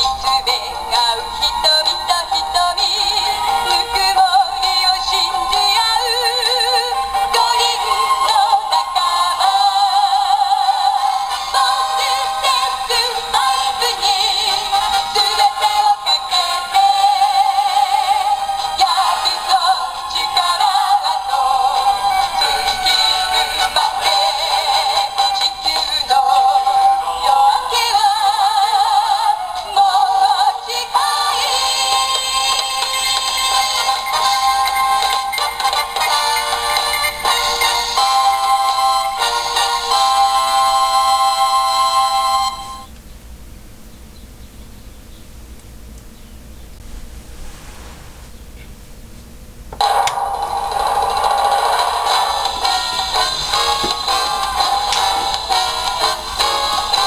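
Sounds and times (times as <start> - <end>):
song through small toy speaker: 0.0 - 42.9, 49.8 - 57.0.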